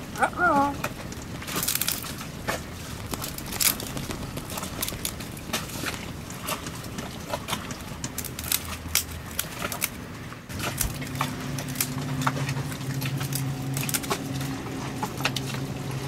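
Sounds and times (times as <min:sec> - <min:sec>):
low engine hum: 0:00.0 - 0:16.0
parrot chewing wicker basket: 0:00.0 - 0:16.0.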